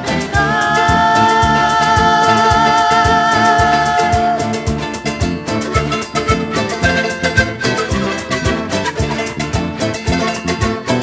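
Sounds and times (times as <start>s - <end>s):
steady percussion beat: 0.0s - 10.9s.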